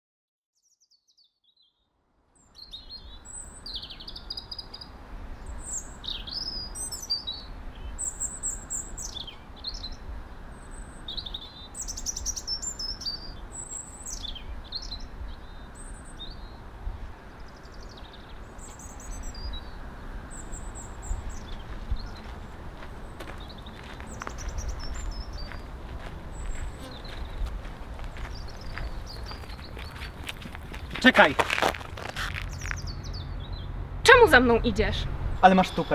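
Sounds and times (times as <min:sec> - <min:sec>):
small songbirds chirping: 0:02.4 - 0:35.9
steady low rumble: 0:05.0 - 0:35.6.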